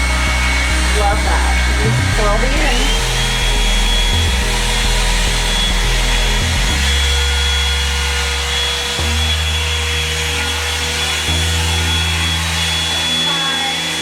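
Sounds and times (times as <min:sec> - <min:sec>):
hair dryer brush motor whining: 0:00.0 - 0:14.0.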